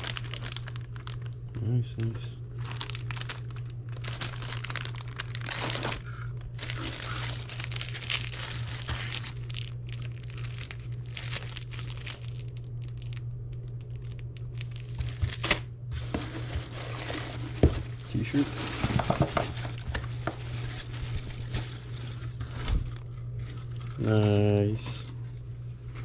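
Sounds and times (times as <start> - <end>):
hands rummaging in crinkle paper: 0.0 - 13.2, 13.8 - 26.0
plastic bags crinkling: 0.0 - 26.0
steady low hum: 0.0 - 26.0.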